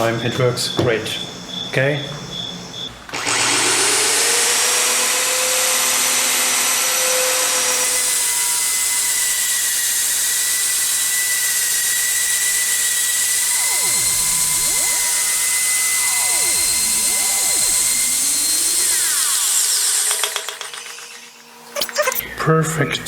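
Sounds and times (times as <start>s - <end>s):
belt sander motor whine: 0.0s - 22.6s.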